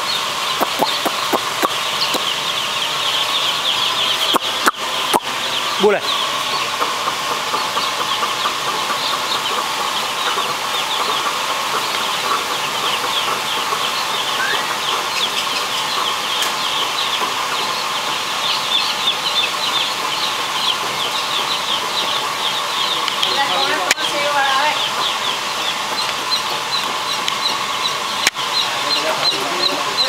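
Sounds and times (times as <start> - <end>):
chicks peeping: 0.0 - 30.0
steady hum: 0.0 - 30.0.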